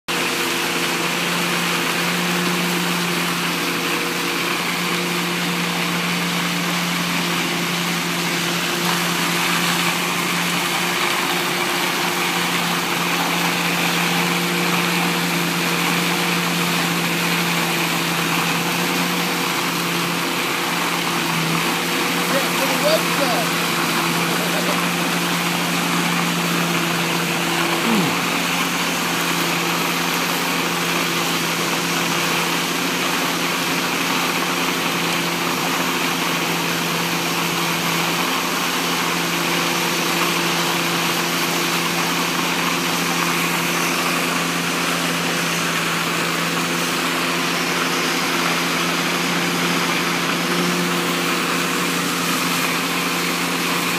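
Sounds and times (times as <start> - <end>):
air and mulch rushing through hose: 0.1 - 53.9
engine and blower drone: 0.1 - 53.9.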